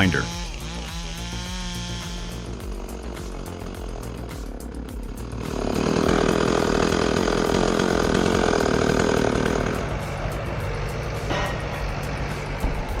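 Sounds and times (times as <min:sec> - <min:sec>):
chainsaw cutting: 0:00.0 - 0:12.6
low engine rumble: 0:00.0 - 0:13.0.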